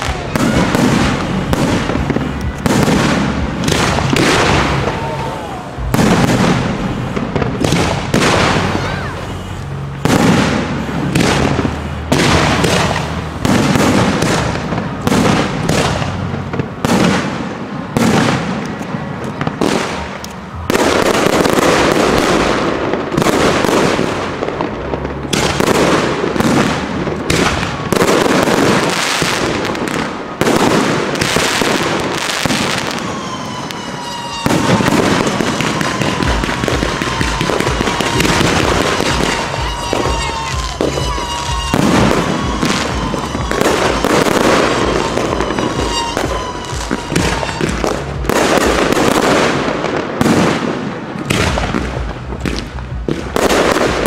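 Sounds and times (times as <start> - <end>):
fireworks crackle: 0.0 - 54.0
fireworks launches and bursts: 0.0 - 54.0.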